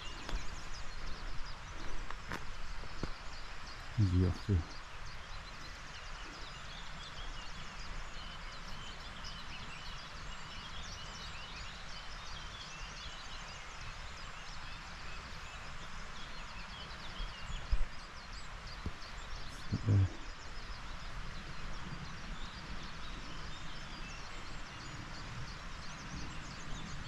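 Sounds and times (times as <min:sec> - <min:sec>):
small birds chirping: 0:00.0 - 0:27.0
steady background hiss: 0:00.0 - 0:27.0.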